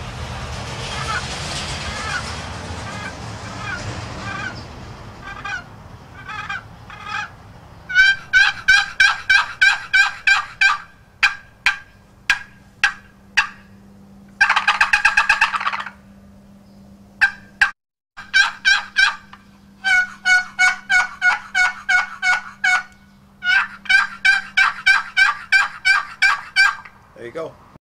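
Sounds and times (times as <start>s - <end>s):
rattling gobble: 0.8s - 13.8s, 14.4s - 16.1s, 17.2s - 27.0s
box turkey call yelps and clucks: 1.8s - 2.2s, 2.9s - 16.1s, 17.2s - 27.0s.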